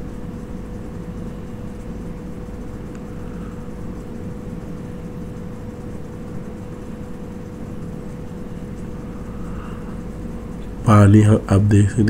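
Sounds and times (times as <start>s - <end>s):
low mechanical hum: 0.0s - 12.0s
thin constant tone: 0.0s - 12.0s.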